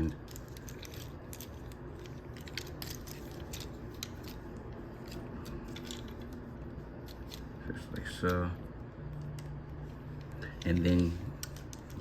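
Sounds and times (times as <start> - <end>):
faint background hum: 0.0 - 12.0.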